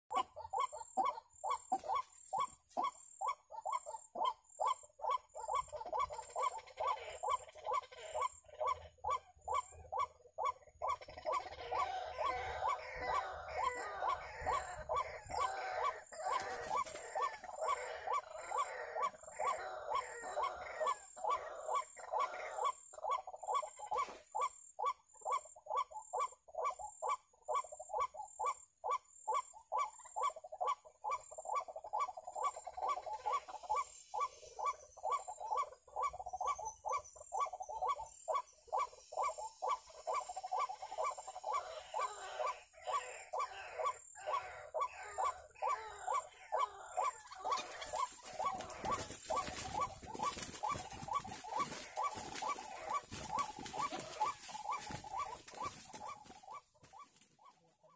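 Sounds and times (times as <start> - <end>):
bird croaking call: 0.0 - 57.9.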